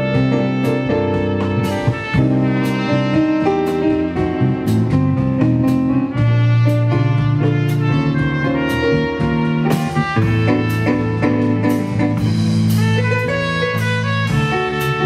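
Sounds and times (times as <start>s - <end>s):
drum kit with cymbals: 0.0s - 15.0s
electric bass: 0.0s - 15.0s
electric piano: 0.0s - 15.0s
trumpet melody: 0.0s - 15.0s.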